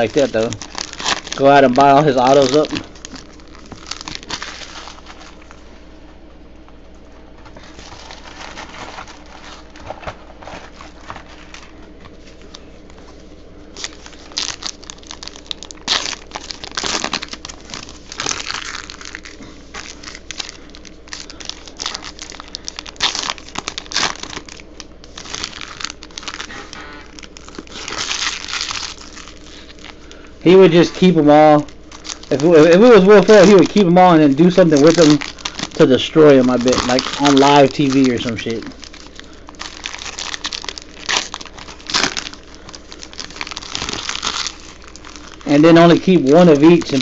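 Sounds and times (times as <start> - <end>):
card pack wrappers crinkling: 0.0 - 5.7, 7.4 - 47.0.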